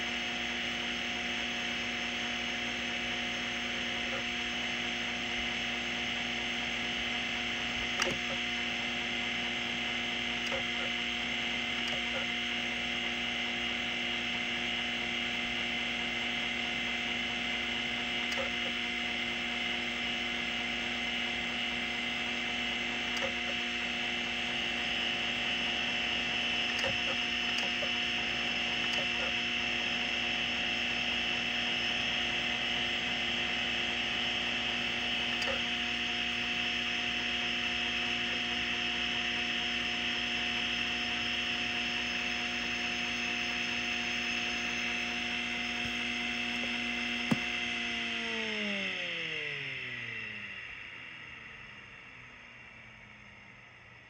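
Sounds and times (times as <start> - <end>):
hard drive spindle whine and hum: 0.0 - 54.0.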